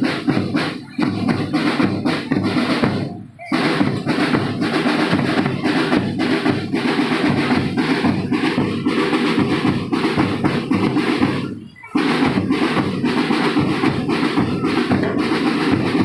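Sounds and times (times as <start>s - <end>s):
marching snare and bass drums: 0.0s - 16.0s.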